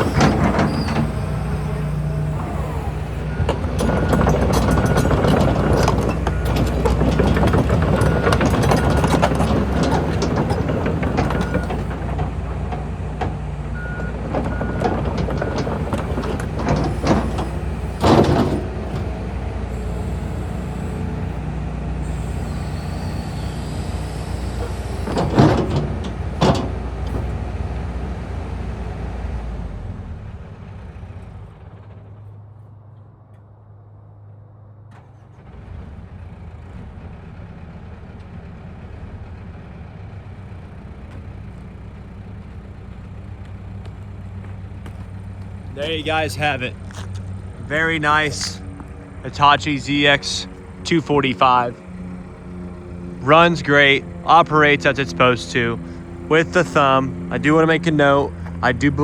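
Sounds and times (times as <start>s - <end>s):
excavator diesel engine running: 0.0s - 32.9s, 35.4s - 59.0s.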